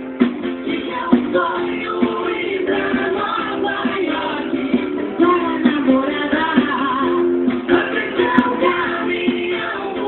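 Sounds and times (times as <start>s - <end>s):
song with steady beat: 0.0s - 10.0s.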